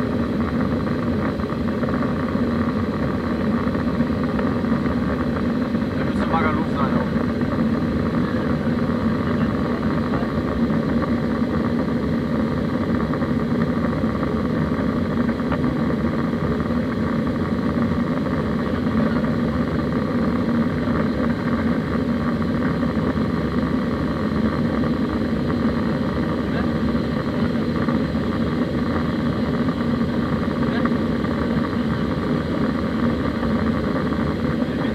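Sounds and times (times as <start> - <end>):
airplane cabin drone: 0.0 - 34.9.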